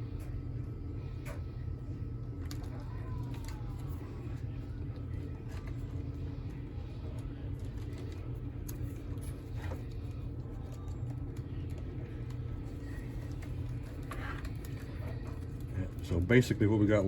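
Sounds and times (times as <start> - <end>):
low background hum: 0.0 - 17.0
faint clicks and rustles: 1.0 - 16.5.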